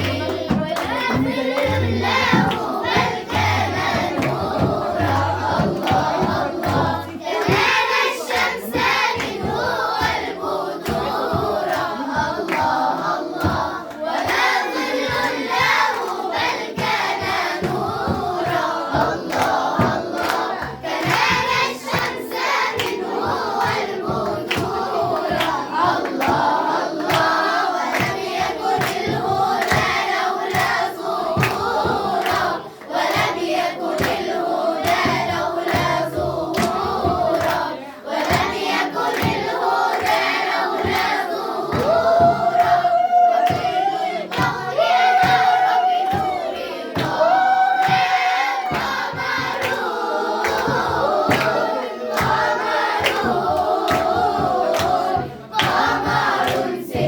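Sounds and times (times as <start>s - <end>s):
steady percussive beat: 0.0s - 57.0s
young voices singing together: 0.0s - 57.0s.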